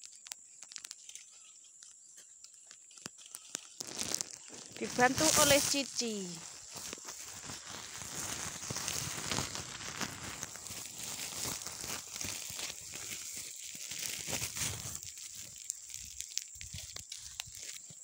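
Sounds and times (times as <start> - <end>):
leafy branches rustling and snapping: 2.4 - 18.0.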